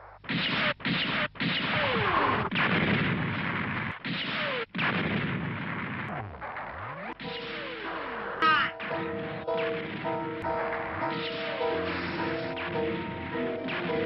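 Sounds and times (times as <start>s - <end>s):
explosions: 0.3s - 14.0s.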